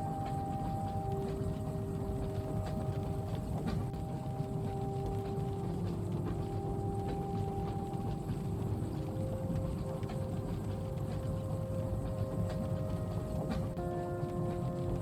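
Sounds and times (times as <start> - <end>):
faint multi-tone hum: 0.0 - 15.0
moving train rumble: 0.0 - 15.0.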